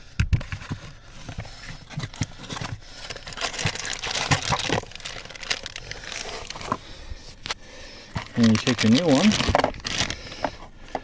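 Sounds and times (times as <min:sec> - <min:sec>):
plastic scraping: 0:00.2 - 0:11.0.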